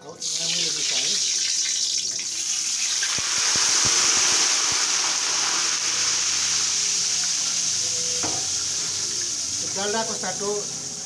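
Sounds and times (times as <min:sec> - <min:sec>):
water sizzling in hot pan: 0:00.2 - 0:11.0.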